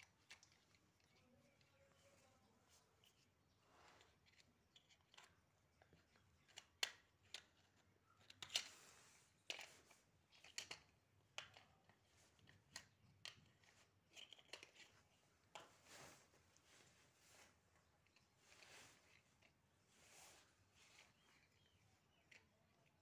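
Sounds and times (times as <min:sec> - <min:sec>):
plastic blocks clicking and scraping: 0:00.0 - 0:02.1, 0:03.0 - 0:15.7, 0:17.9 - 0:19.6, 0:20.7 - 0:23.0.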